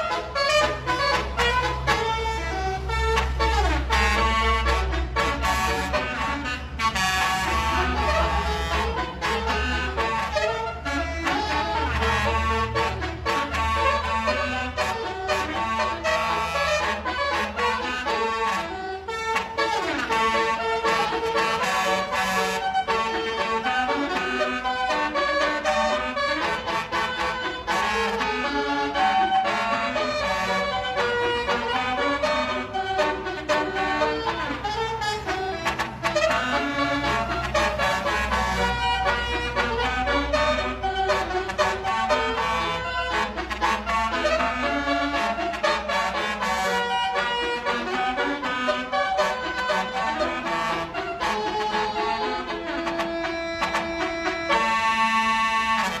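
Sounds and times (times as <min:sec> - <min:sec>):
low engine rumble: 0:00.0 - 0:56.0
multi-tone bus horn melody: 0:00.0 - 0:56.0.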